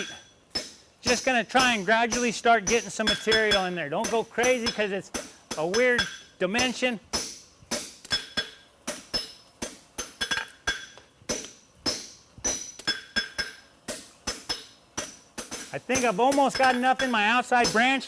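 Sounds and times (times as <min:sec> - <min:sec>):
hammer striking steel on anvil: 0:00.0 - 0:18.0.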